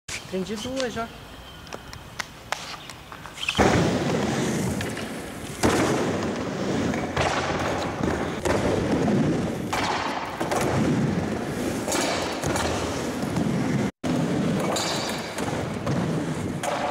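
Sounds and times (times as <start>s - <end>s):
skateboard wheels rumbling: 2.9s - 16.9s.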